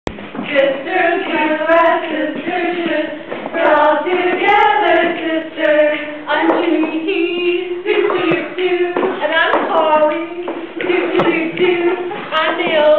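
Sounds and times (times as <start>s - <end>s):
women singing together: 0.2s - 12.9s.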